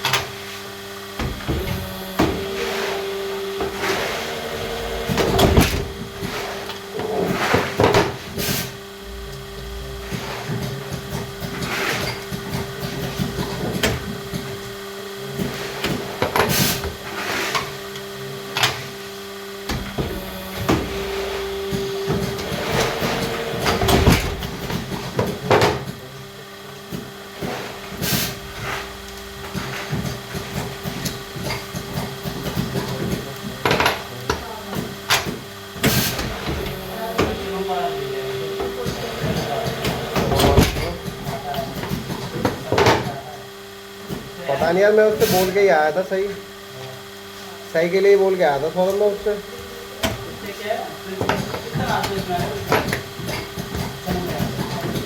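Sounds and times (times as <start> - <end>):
machinery humming: 0.0 - 17.2, 17.8 - 45.6.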